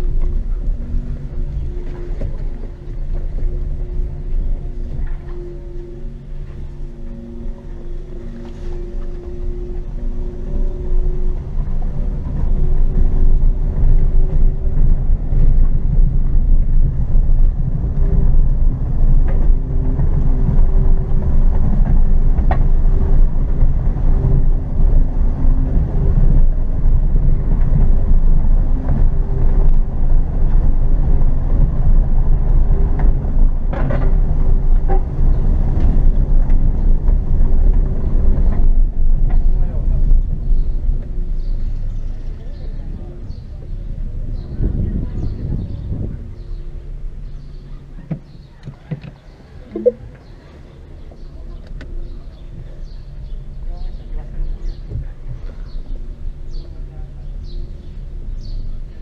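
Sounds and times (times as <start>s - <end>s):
faint hum: 0.0s - 48.0s
road and wind noise: 0.0s - 59.0s.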